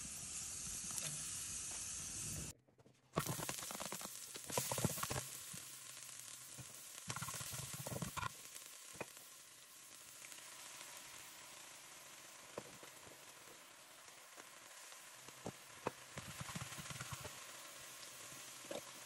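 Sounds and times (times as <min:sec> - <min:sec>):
garlic sizzling in hot oil: 0:00.0 - 0:02.5, 0:03.2 - 0:19.0.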